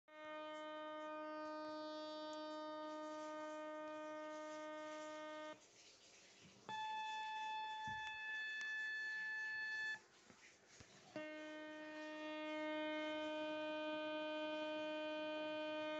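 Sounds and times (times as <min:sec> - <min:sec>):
steady buzzing radio tone: 0:00.1 - 0:05.6, 0:06.7 - 0:10.0, 0:11.2 - 0:15.9.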